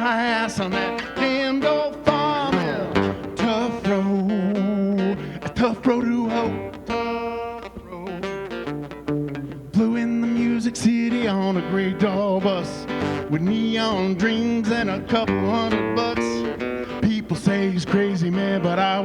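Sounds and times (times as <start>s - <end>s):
man singing long notes: 0.0s - 8.7s, 9.3s - 19.0s
acoustic guitar country song: 0.0s - 19.0s.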